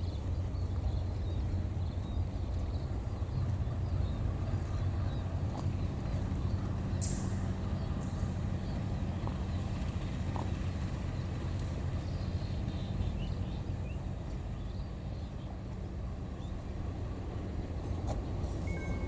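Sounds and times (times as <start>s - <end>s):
locomotive engine rumbling: 0.0s - 19.0s.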